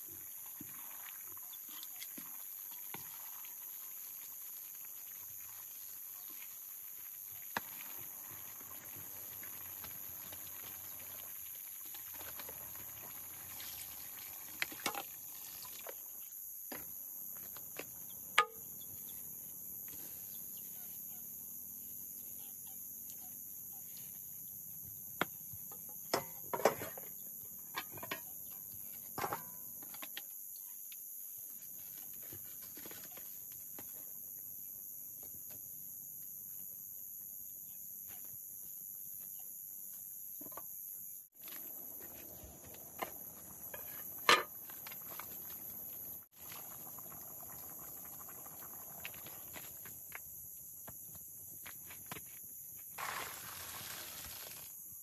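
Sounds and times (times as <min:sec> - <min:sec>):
night insects chorus: 0:00.0 - 0:55.0.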